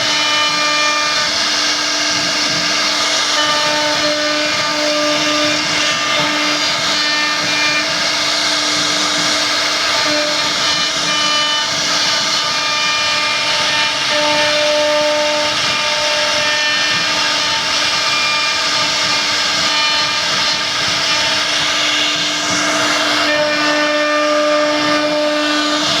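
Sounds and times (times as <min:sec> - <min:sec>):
cnc machine whine: 0:00.0 - 0:26.0
loud hiss: 0:00.0 - 0:26.0.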